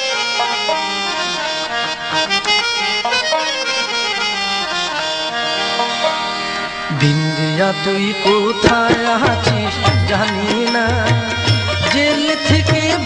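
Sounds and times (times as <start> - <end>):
free-reed instrument melody: 0.0 - 13.0.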